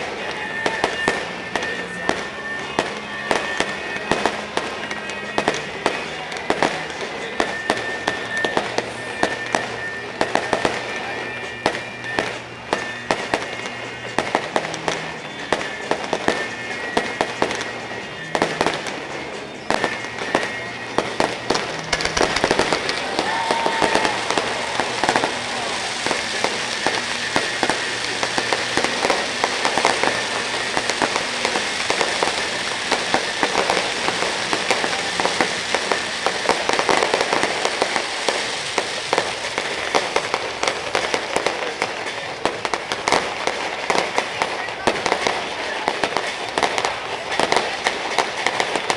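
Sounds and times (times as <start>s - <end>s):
firework crackling barrage: 0.0s - 48.9s
firework shells bursting: 0.0s - 48.9s.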